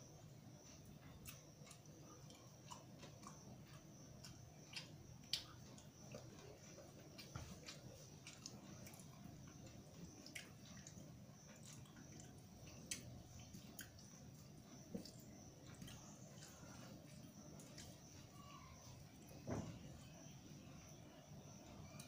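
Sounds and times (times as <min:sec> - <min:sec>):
quiet chewing: 0:00.6 - 0:20.3.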